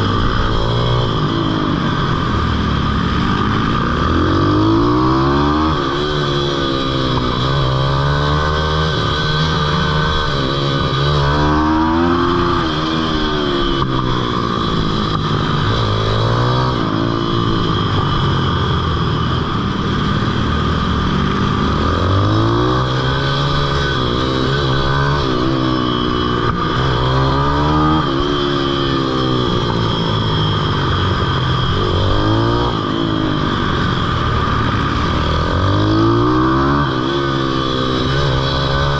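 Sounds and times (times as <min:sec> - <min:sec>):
small motorbike engine revving: 0:00.0 - 0:38.9
wind and road noise: 0:00.0 - 0:38.9.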